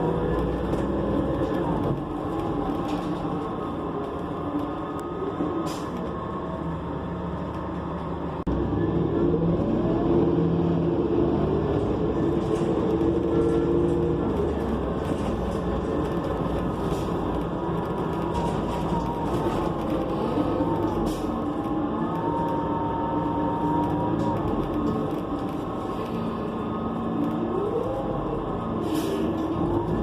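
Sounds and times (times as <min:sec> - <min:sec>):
bus engine running: 0:00.0 - 0:30.0
rising whine of accelerating bus: 0:00.0 - 0:30.0.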